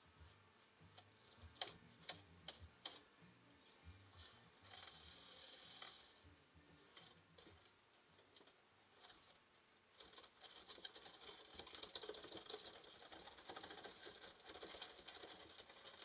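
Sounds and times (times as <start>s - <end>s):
tyres pattering and clicking: 0.0s - 16.0s.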